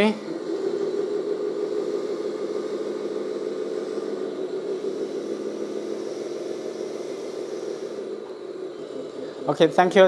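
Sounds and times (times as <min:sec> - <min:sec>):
toy truck motor whirring: 0:00.0 - 0:10.0.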